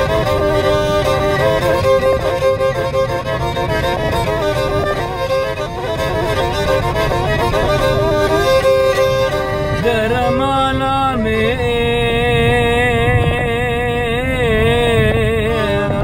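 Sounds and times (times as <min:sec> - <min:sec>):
bowed fiddle folk melody: 0:00.0 - 0:13.5.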